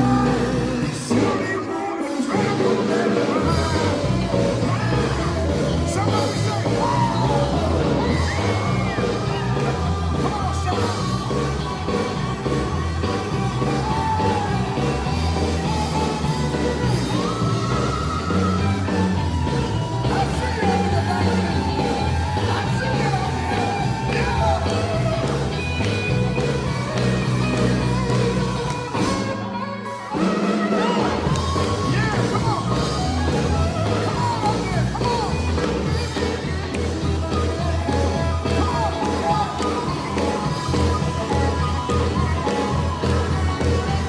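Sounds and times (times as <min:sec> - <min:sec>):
steady drum beat: 0:00.0 - 0:29.5, 0:30.4 - 0:44.0
person singing: 0:00.0 - 0:44.0.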